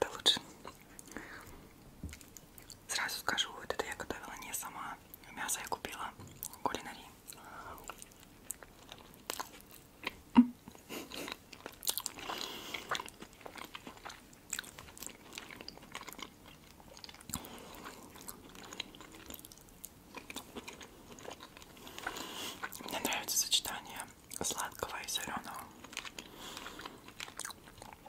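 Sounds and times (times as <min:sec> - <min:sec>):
chewing with wet mouth clicks: 0:00.2 - 0:02.9, 0:05.0 - 0:28.0.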